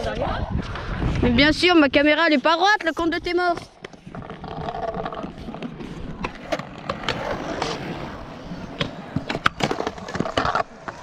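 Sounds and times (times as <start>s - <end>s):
wheels rolling on concrete: 0.0s - 11.0s.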